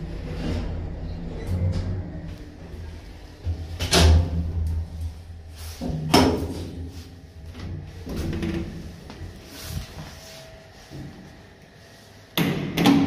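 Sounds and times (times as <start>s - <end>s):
lift car low hum: 0.0s - 12.4s.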